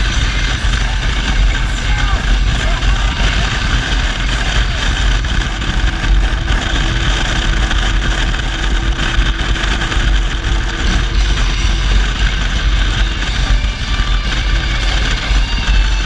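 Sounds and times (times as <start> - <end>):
vehicle rattling: 0.0 - 16.0.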